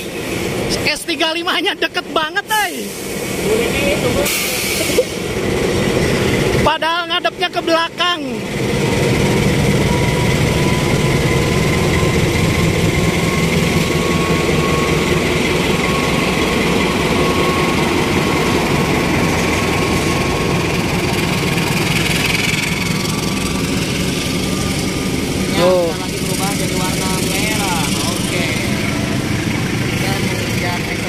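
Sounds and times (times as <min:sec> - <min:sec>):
diesel locomotive passing: 0:00.0 - 0:31.0
train coaches rolling past: 0:00.0 - 0:31.0.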